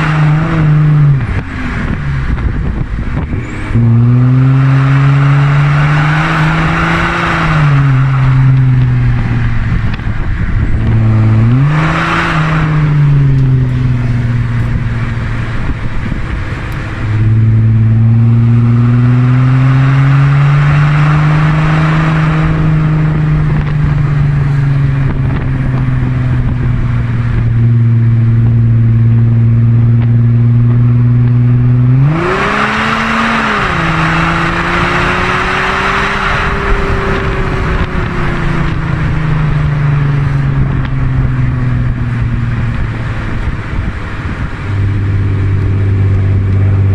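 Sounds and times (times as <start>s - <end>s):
diesel engine exhaust note: 0.0s - 46.9s.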